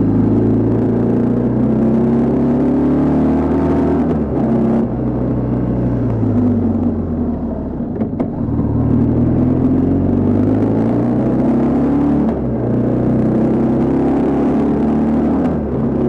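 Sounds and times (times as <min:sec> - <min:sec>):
motorcycle engine under throttle: 0:00.0 - 0:16.0.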